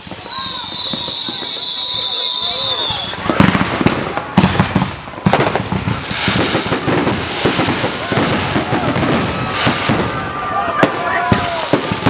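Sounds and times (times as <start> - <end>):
fireworks crackling and banging: 0.0 - 12.0
fireworks hissing: 0.0 - 12.0.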